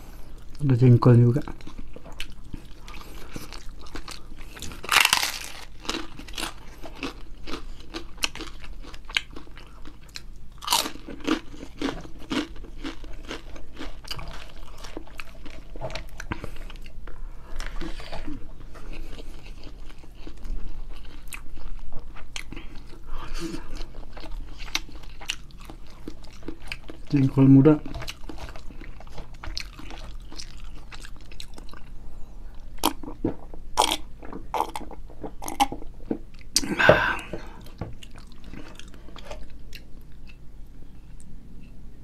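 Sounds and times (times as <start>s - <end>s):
person chewing crunchy food: 1.4s - 40.4s.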